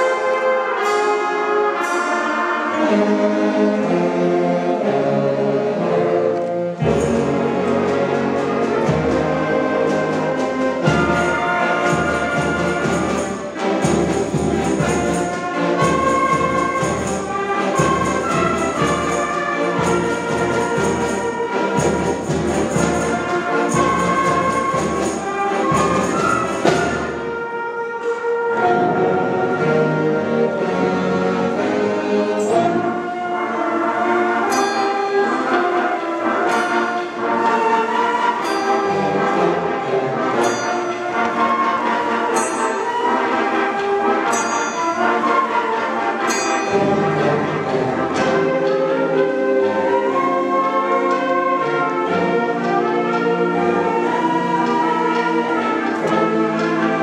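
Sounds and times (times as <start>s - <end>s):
concert band playing: 0.0s - 57.0s.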